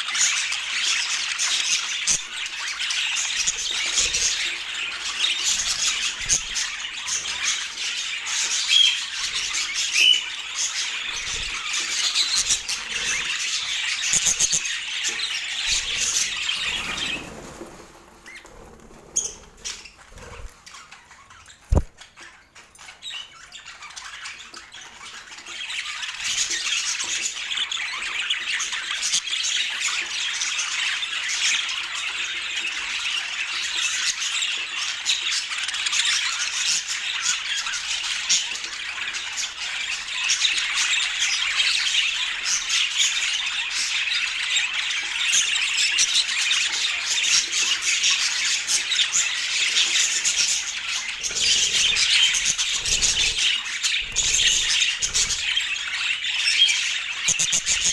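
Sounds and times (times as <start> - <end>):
budgerigars chattering: 0.2 - 22.4, 31.8 - 57.9.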